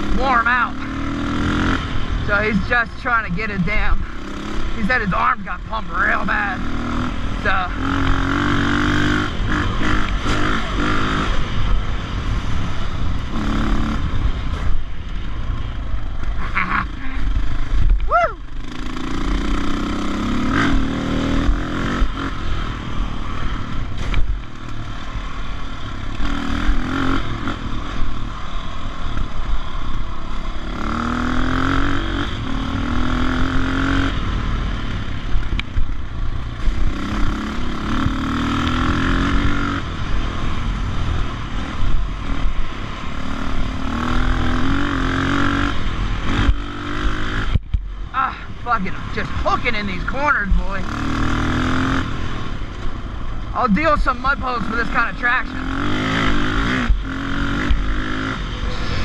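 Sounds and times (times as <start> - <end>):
dirt bike engine revving: 0.0 - 14.9, 16.0 - 35.7, 36.6 - 47.6, 48.2 - 53.0, 53.6 - 59.0.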